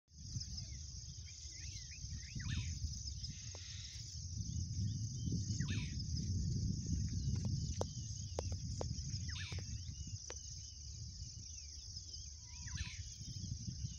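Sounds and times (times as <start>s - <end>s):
insects buzzing: 0.1s - 13.9s
bird chirps: 0.2s - 6.2s, 6.9s - 13.9s.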